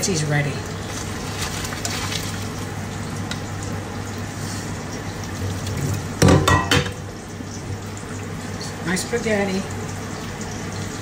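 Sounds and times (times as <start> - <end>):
food sizzling on stove: 0.2 - 11.0.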